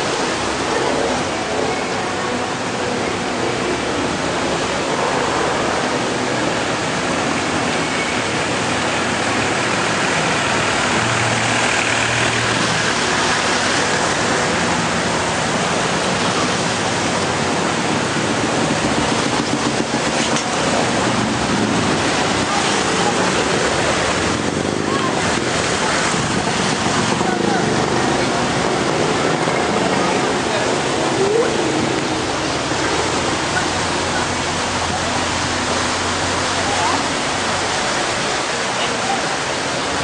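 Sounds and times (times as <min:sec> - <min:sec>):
loud wash of noise: 0:00.0 - 0:40.0
vehicle engines running: 0:00.0 - 0:40.0.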